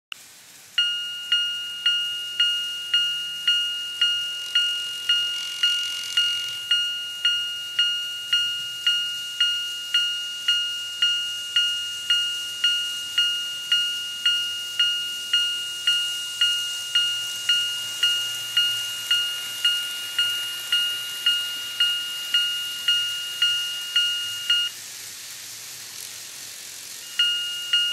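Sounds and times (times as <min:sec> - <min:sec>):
two-tone crossing warning bell: 0:00.7 - 0:24.8, 0:26.9 - 0:27.9.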